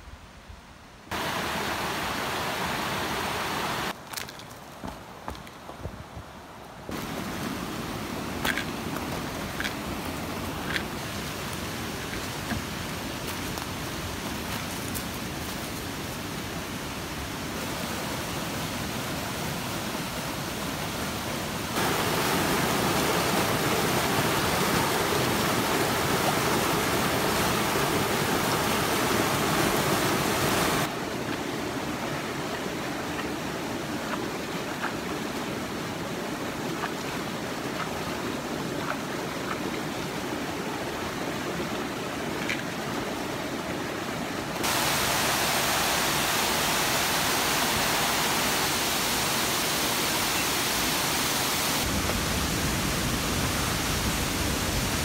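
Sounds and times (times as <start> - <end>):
stream water rushing: 1.1 - 4.2, 6.4 - 55.0.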